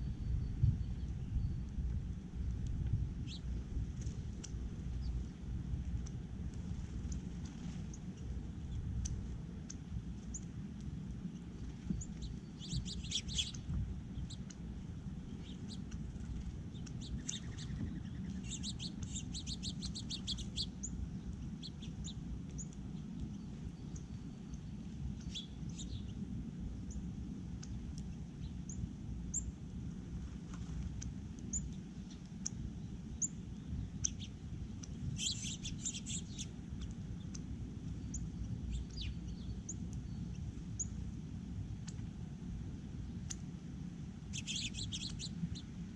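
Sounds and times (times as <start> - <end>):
small birds chirping: 0.0 - 45.9
steady low rumble: 0.0 - 45.9.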